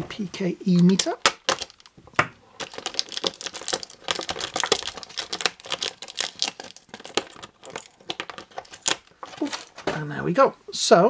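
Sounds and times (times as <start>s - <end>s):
plastic packaging crinkling: 0.6s - 9.9s.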